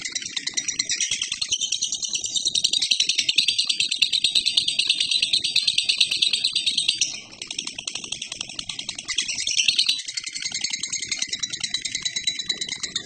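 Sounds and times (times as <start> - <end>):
lovebird chattering trill: 0.5 - 13.0.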